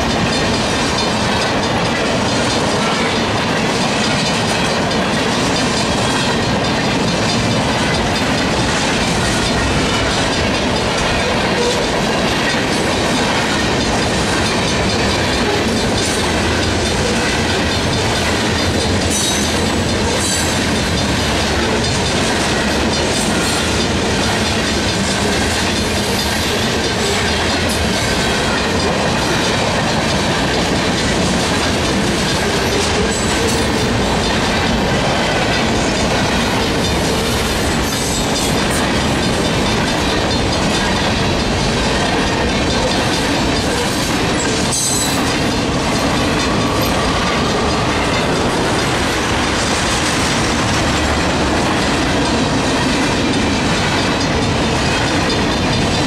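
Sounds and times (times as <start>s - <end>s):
freight train wheels rumbling: 0.0s - 56.0s
wheels clicking over rail joints: 0.0s - 56.0s.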